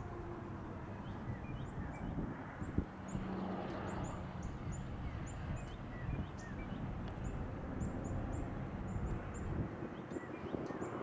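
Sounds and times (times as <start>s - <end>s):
small birds chirping: 1.0s - 11.0s.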